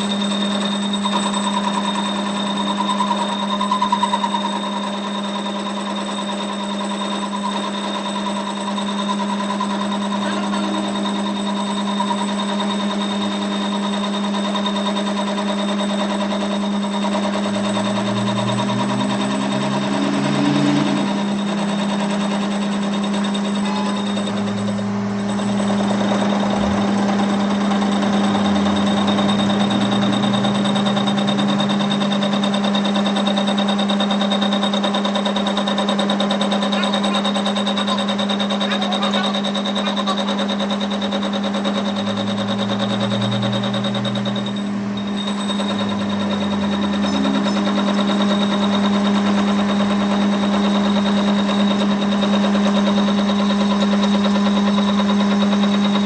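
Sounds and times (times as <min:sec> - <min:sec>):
machinery loud hum: 0:08.3 - 0:56.0.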